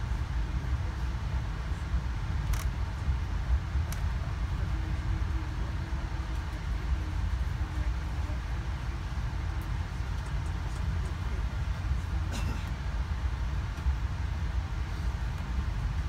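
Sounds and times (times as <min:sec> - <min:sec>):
train rumbling inside coach: 0:00.0 - 0:16.0.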